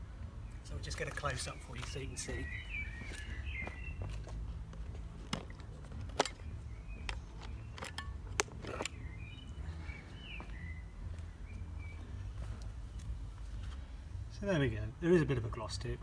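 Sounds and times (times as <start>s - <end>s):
small birds chirping: 0.0s - 14.6s.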